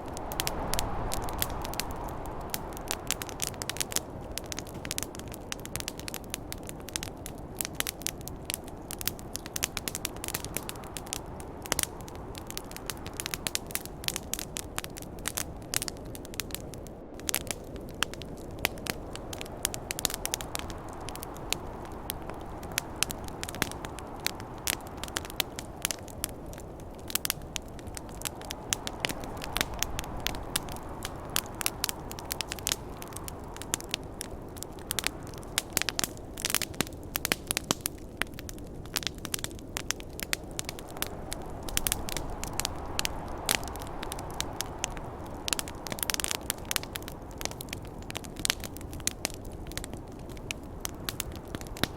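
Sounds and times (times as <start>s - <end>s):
campfire crackling and popping: 0.0s - 51.9s
snowstorm wind rushing: 0.0s - 51.9s.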